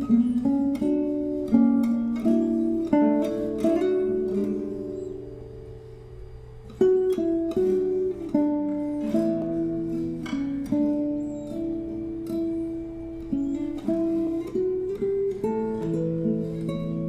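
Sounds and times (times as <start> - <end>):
plucked guitar tune: 0.0 - 17.0.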